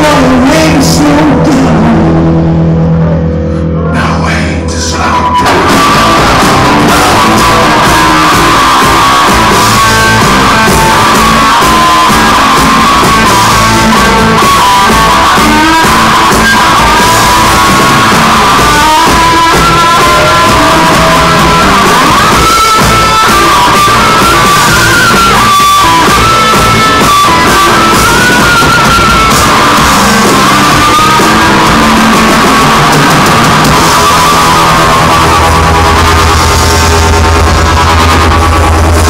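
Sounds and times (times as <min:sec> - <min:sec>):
person singing: 0:00.0 - 0:35.6
drums: 0:00.0 - 0:39.0
electric guitars: 0:00.0 - 0:39.0
live rock band playing: 0:00.0 - 0:39.0.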